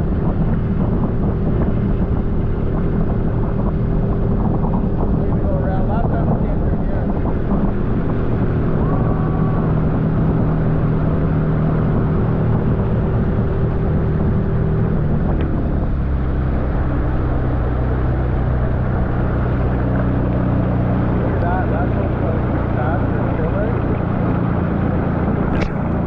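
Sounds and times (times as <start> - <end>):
outboard motor running: 0.0 - 26.0
wind and water rushing: 0.0 - 26.0.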